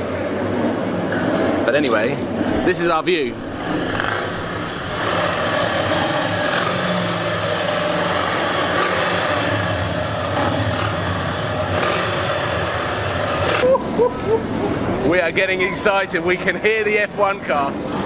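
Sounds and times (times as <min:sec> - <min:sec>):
engines idling: 0:00.0 - 0:18.0.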